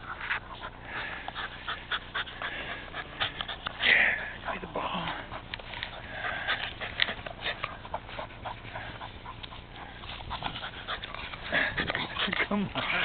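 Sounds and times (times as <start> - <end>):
dog panting and snuffling: 0.0 - 13.0.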